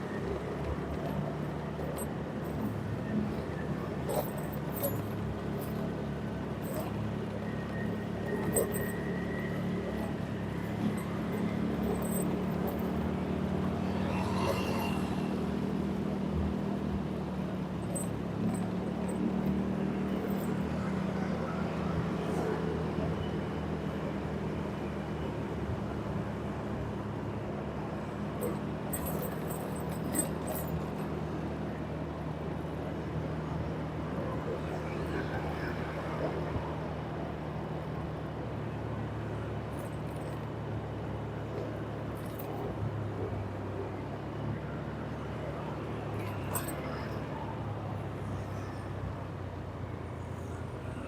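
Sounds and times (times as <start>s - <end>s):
traffic noise: 0.0s - 51.0s.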